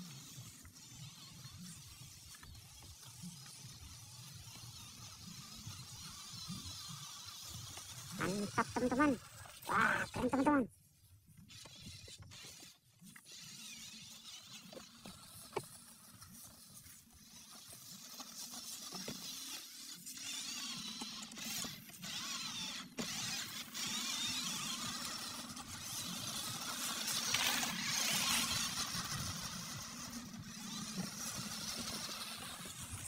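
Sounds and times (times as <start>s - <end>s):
toy car motor whining: 0.0s - 33.0s.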